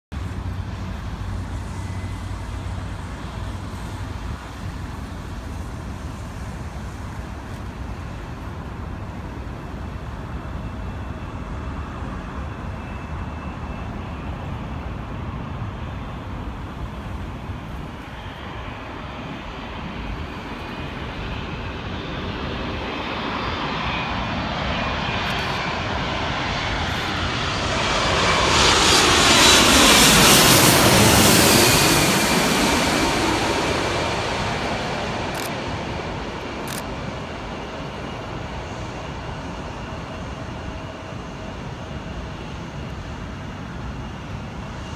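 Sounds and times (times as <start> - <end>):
jet engines overhead: 0.1 - 44.9
low rumble of road traffic: 0.1 - 44.9.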